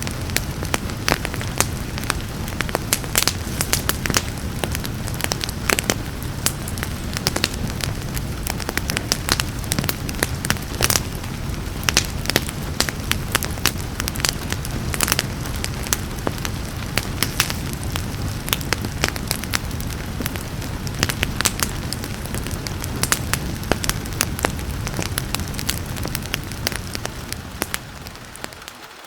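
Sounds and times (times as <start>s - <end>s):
rain hissing: 0.0s - 29.0s
wood fire crackling: 0.0s - 29.0s.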